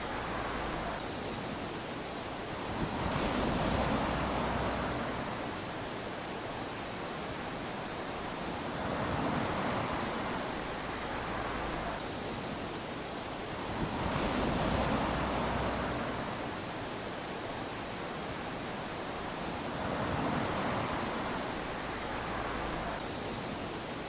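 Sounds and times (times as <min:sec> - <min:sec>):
small waves lapping on sand: 0:00.0 - 0:24.0.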